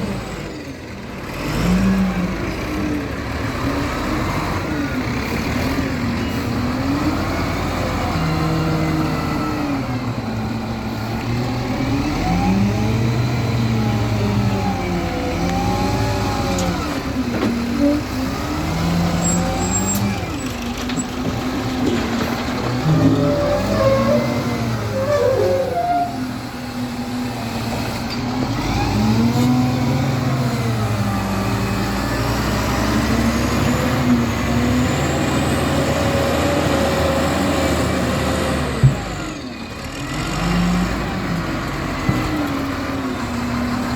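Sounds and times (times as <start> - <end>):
loader diesel engine revving: 0.0 - 43.9.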